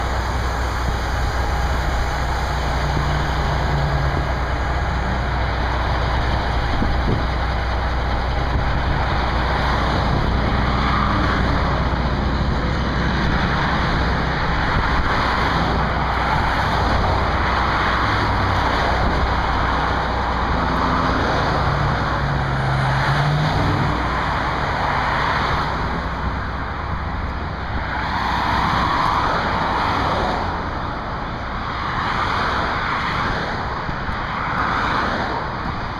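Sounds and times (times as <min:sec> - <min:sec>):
diesel truck engine running: 0:00.0 - 0:34.6
road and wind noise: 0:00.0 - 0:35.9.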